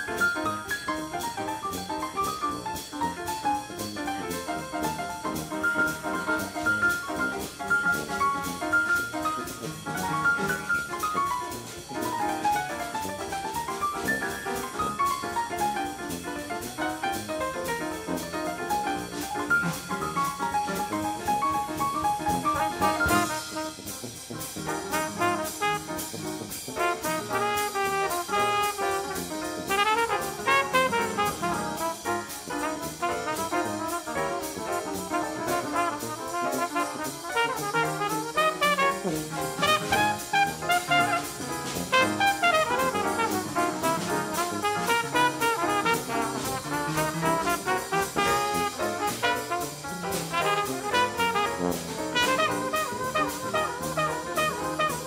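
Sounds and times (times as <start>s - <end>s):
jazz music with brass: 0.0s - 55.0s.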